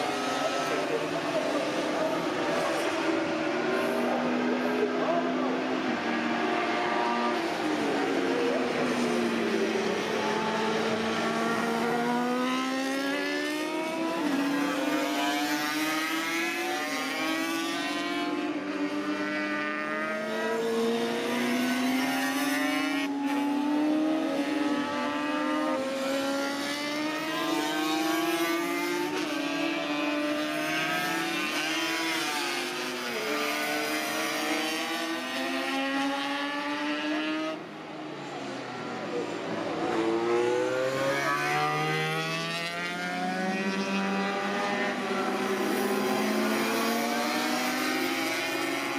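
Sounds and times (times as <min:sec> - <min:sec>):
racing motorcycle engines: 0:00.0 - 0:48.9.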